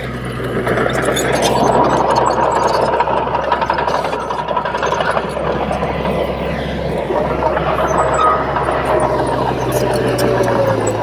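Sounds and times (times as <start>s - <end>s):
bulldozer diesel engine humming: 0.0s - 11.0s.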